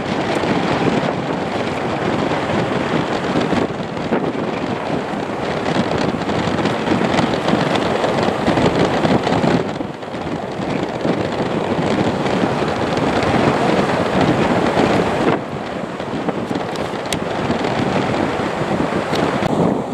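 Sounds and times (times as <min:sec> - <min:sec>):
turboprop engines running: 0:00.0 - 0:19.9
wind buffeting microphone: 0:00.0 - 0:19.9.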